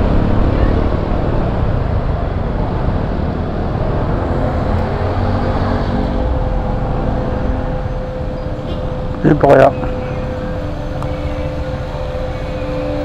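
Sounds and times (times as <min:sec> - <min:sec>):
wind rushing: 0:00.0 - 0:12.9.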